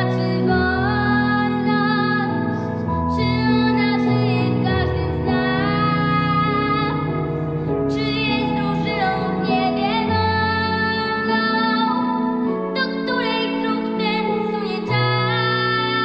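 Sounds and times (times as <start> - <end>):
girl singing: 0.0 - 7.1, 7.9 - 16.0
instrumental backing track: 0.0 - 16.0.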